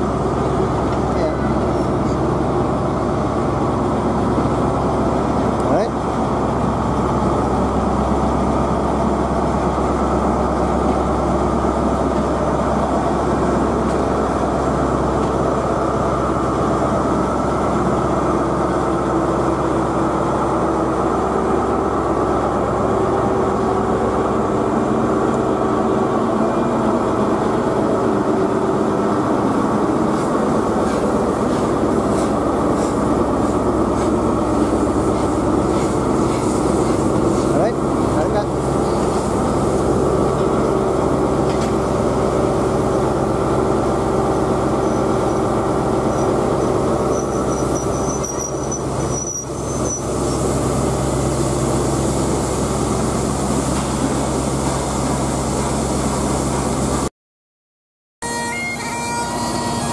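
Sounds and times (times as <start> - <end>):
train rumbling on rails: 0.0 - 57.1.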